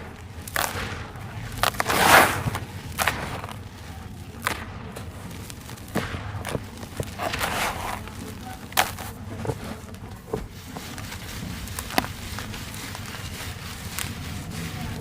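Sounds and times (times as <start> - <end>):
sand lumps crunching and snapping: 0.0 - 15.0.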